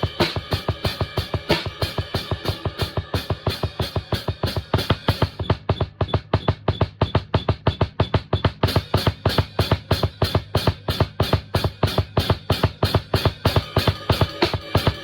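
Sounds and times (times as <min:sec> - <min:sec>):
drum kit fast rhythm: 0:00.0 - 0:15.0.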